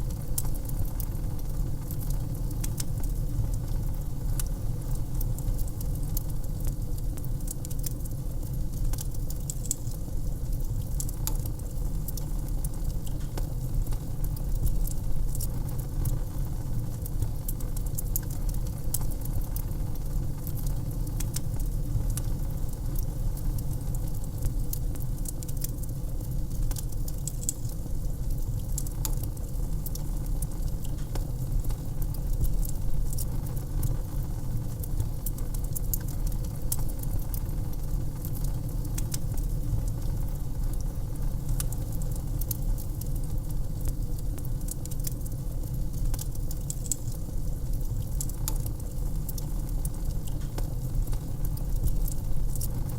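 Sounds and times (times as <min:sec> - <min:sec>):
flames rumbling: 0:00.0 - 0:52.9
wood fire crackling: 0:00.0 - 0:52.9.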